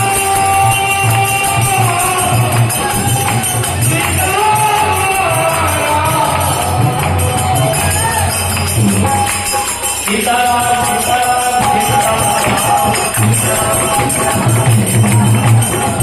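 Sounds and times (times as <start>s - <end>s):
harmonium melody: 0.0s - 16.0s
jingling hand percussion: 0.0s - 16.0s
steady drum beat: 0.0s - 16.0s.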